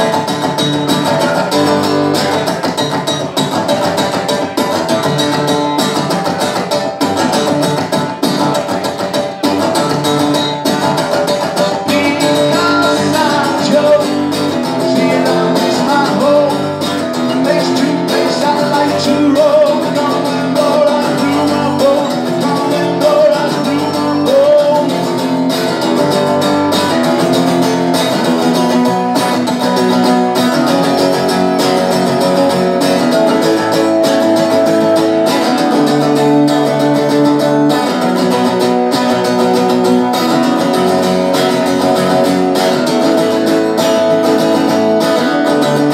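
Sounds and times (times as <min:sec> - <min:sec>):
live indie rock music: 0:00.0 - 0:45.9
strummed guitar: 0:00.0 - 0:45.9.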